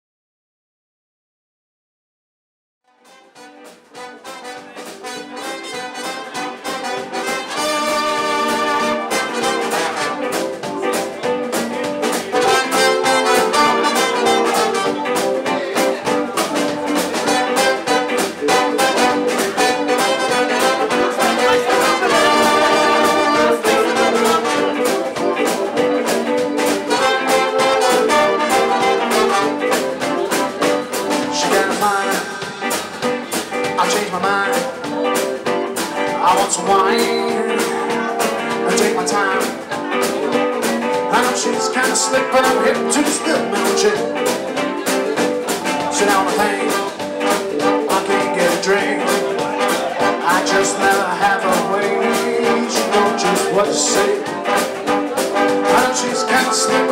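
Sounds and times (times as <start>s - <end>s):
swing band playing: 2.9s - 56.9s.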